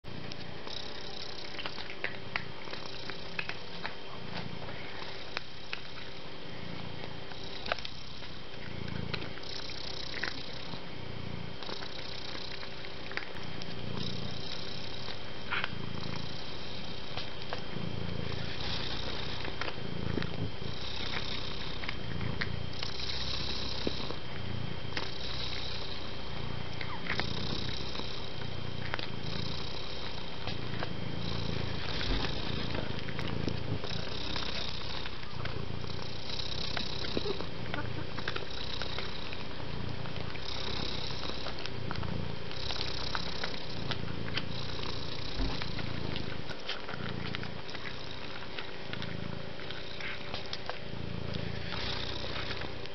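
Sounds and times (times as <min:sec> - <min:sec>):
cat purring: 0:00.1 - 0:52.9.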